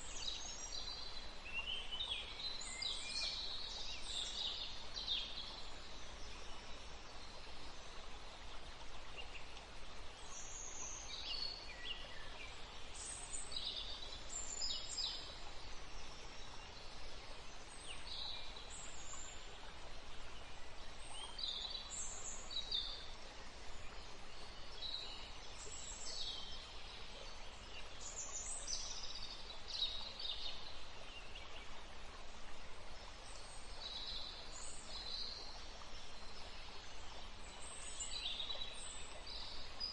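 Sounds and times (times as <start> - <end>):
small birds singing: 0.0 - 32.0, 32.6 - 39.9
background hiss: 0.0 - 39.9.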